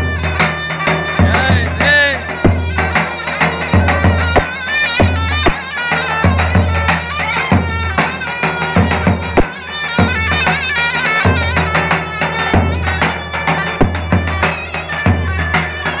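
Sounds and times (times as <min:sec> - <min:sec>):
shrill reed pipe melody: 0:00.0 - 0:16.0.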